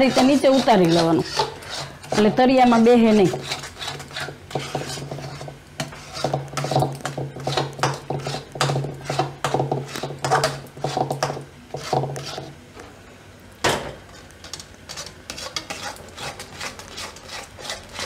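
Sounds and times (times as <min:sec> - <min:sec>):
spatula scraping metal pan: 0:00.0 - 0:12.5, 0:14.2 - 0:18.0.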